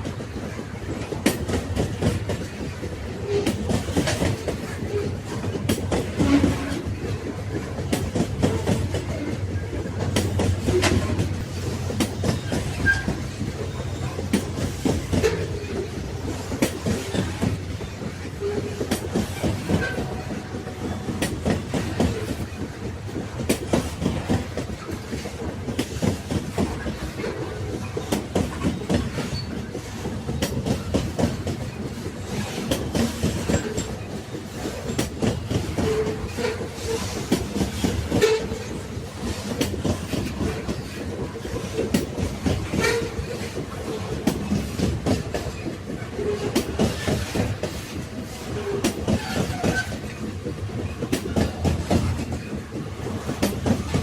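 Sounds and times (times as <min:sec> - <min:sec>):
railway wagons rumbling: 0:00.0 - 0:54.0
wheels clacking over rails: 0:00.0 - 0:54.0.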